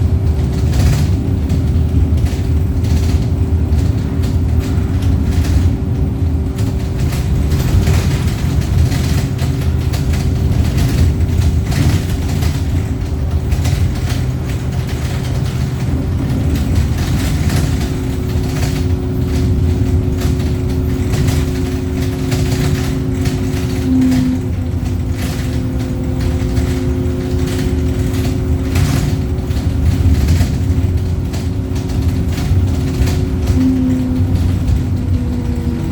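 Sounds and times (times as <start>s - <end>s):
bus engine rumble: 0.0s - 35.9s
constant whine: 0.0s - 35.9s
rattles and clatters: 0.0s - 35.9s.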